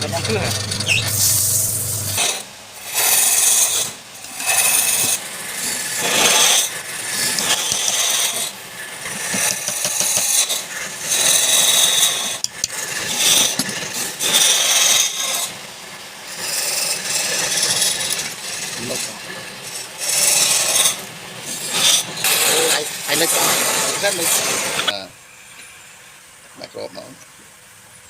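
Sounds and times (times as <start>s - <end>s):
wood scraping on a lathe: 0.0s - 25.1s.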